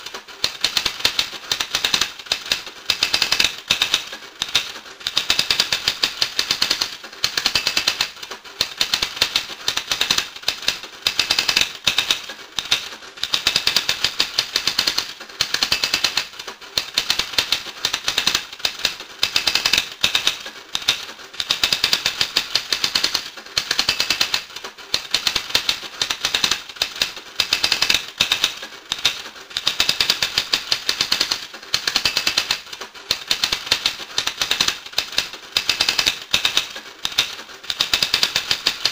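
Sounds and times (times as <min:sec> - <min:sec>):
rapid dry clicking: 0:00.0 - 0:38.9.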